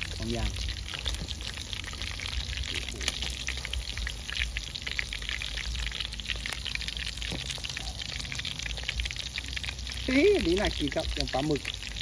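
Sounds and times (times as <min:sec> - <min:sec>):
low steady rumble: 0:00.0 - 0:12.0
sausages sizzling in hot oil: 0:00.0 - 0:12.0.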